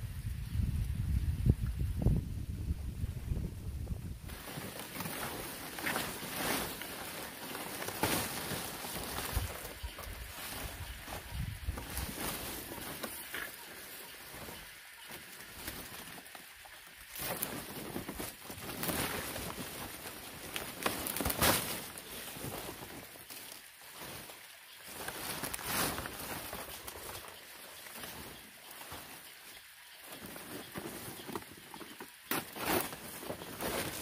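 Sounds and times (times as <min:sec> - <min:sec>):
palm leaves rustling and crackling: 0:00.0 - 0:34.0.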